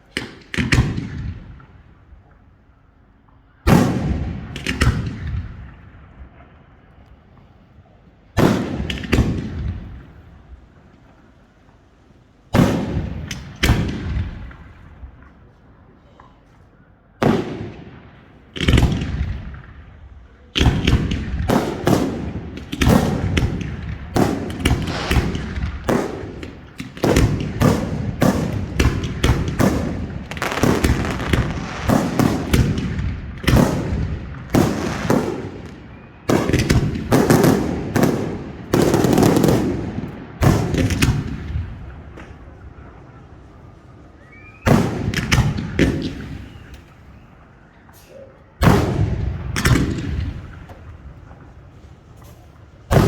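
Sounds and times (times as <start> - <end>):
fireworks bangs: 3.6 - 6.6, 8.3 - 11.2, 12.5 - 15.6, 17.2 - 53.0.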